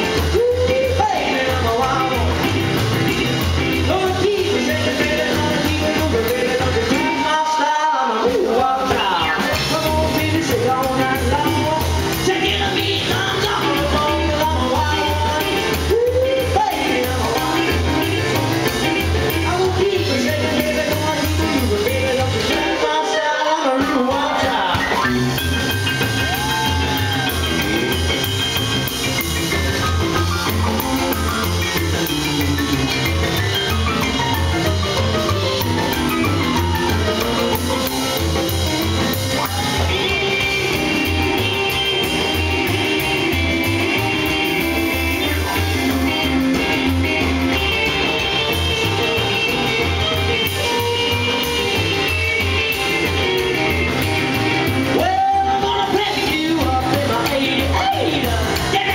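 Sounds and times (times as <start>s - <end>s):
rock and roll band playing: 0.0s - 58.9s.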